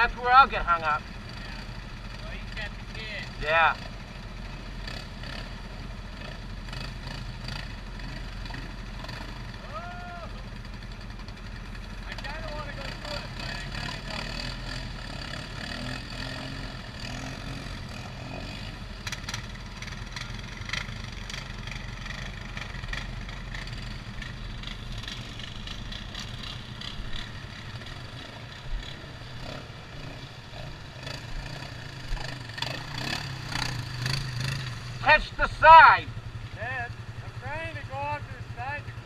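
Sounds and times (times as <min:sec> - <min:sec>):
atv engine idling: 0:00.0 - 0:39.0.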